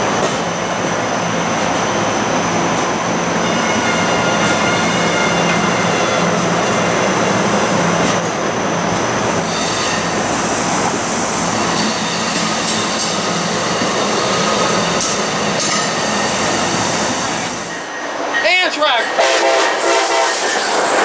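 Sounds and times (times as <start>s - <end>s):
train wheels rushing on rail: 0.0s - 21.0s.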